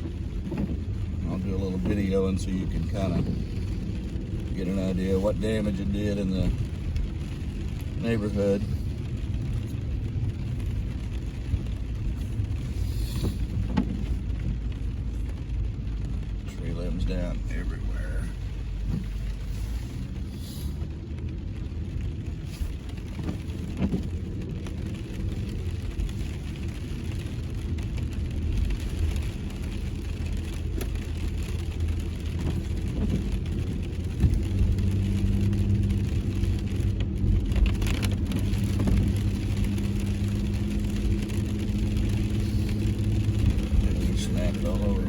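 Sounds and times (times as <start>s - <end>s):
car engine hum: 0.0s - 45.0s
low road rumble: 0.0s - 45.0s.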